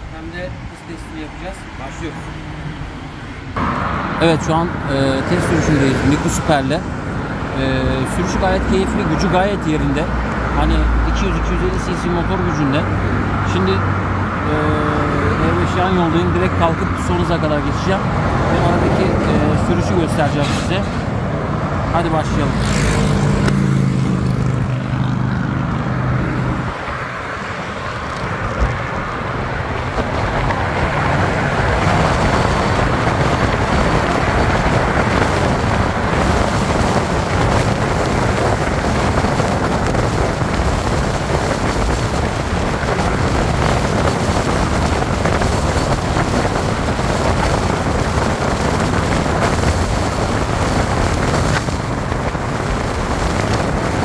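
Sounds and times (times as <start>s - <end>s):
passing cars road noise: 0.0s - 54.0s
wind rushing over microphone: 0.0s - 54.0s.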